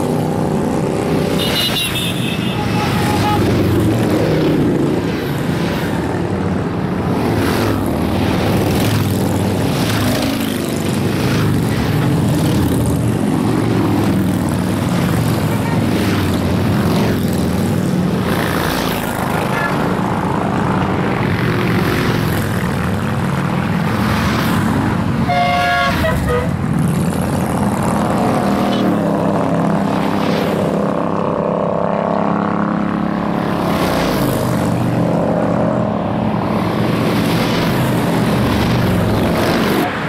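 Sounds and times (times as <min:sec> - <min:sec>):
motorcycles riding past: 0:00.0 - 0:40.0.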